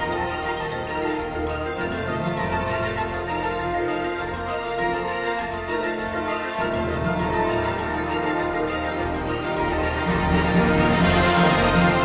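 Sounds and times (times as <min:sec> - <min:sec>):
orchestra playing minimalist music: 0:00.0 - 0:12.0.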